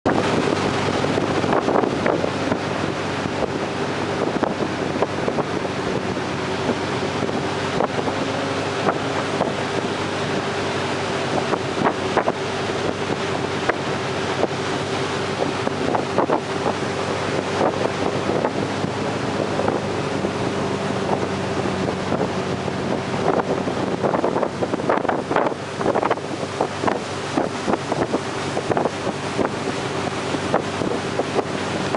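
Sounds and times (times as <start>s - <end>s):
boat engine drone: 0.0s - 31.9s
boat wake rushing: 0.0s - 31.9s
wind buffeting microphone: 0.1s - 31.9s.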